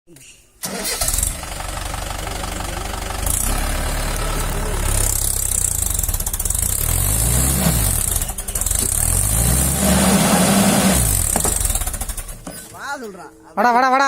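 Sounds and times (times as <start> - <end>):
tractor engine running: 0.6 - 12.8.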